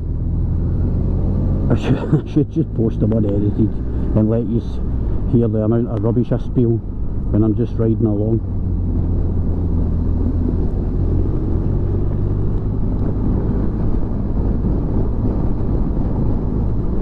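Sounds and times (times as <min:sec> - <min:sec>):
riding wind rushing: 0:00.1 - 0:17.0.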